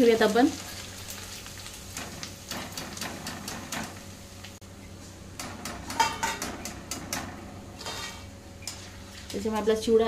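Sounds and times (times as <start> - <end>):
oil sizzling: 0.0 - 10.0.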